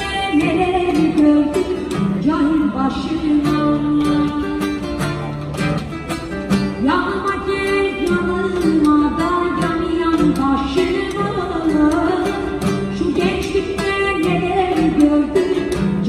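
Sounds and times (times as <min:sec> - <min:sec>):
woman singing: 0:00.0 - 0:05.0, 0:06.7 - 0:16.0
acoustic guitar chords: 0:00.0 - 0:16.0.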